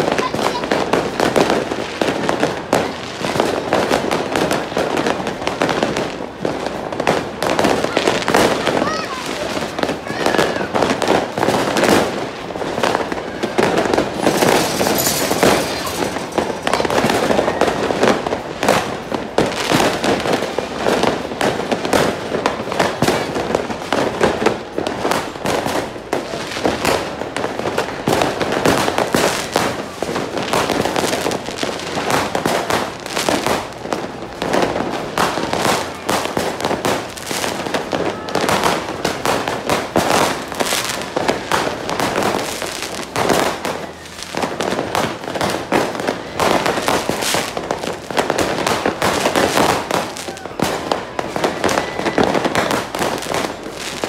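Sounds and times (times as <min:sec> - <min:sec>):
fireworks and firecrackers banging: 0:00.0 - 0:54.0.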